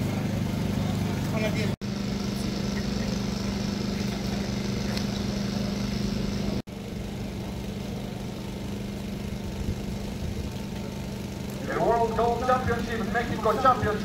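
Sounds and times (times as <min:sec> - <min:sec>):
small engine hum: 0:00.0 - 0:14.0.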